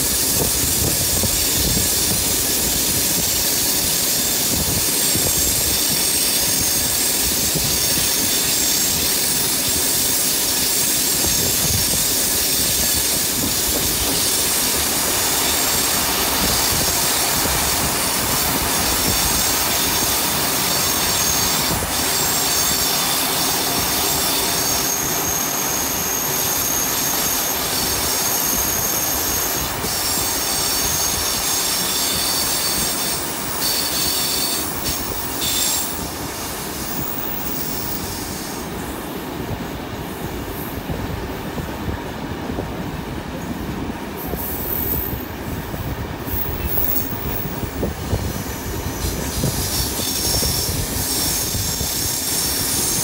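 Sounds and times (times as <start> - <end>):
train wheels rumbling on rail: 0.0 - 53.0
wheel flange squeal: 0.1 - 36.1, 46.3 - 53.0.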